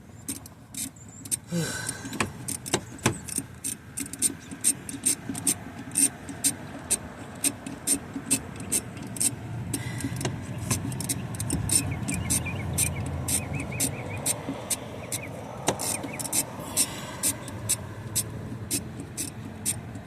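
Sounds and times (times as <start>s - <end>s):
hand ratchet clicking: 0.3s - 20.0s.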